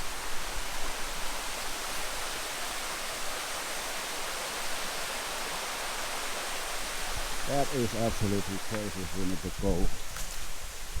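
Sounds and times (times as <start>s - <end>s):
waterfall rushing: 0.1s - 10.0s.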